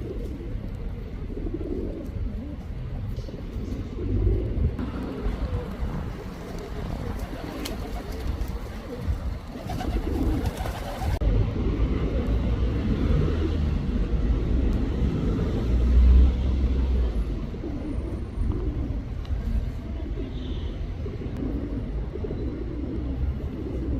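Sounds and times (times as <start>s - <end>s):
pigeon cooing: 0.0s - 12.3s, 16.9s - 23.9s.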